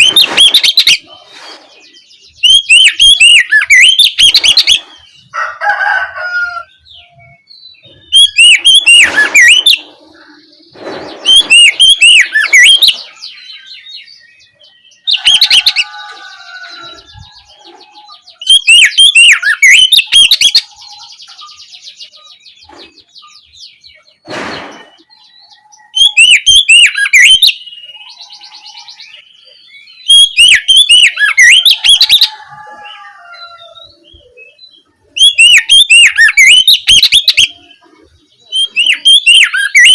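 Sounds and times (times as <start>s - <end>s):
bird singing loud phrases: 0.0s - 39.9s
soft bird twittering: 6.4s - 39.9s.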